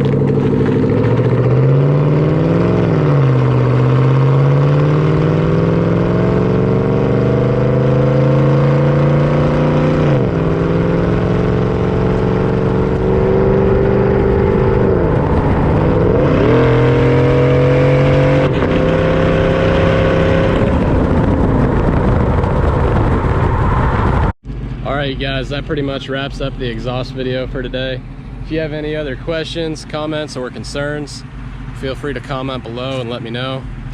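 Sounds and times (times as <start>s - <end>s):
truck exhaust accelerating: 0.0s - 33.9s.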